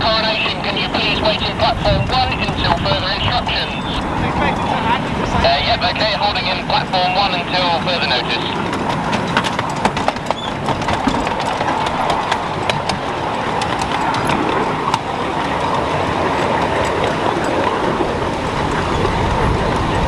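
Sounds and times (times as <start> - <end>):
miniature train rumbling: 0.0 - 20.0.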